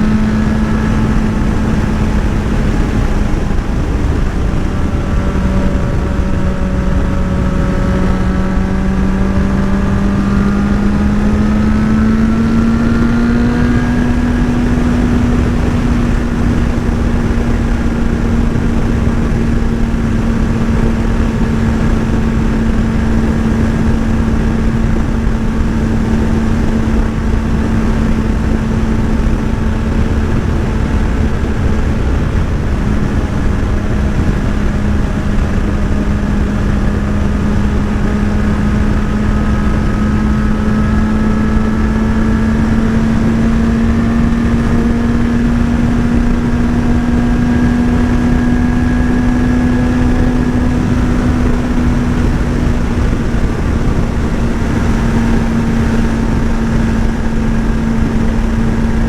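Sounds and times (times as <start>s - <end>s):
motorcycle engine running: 0.0s - 59.0s
wind noise rumble: 0.0s - 59.0s.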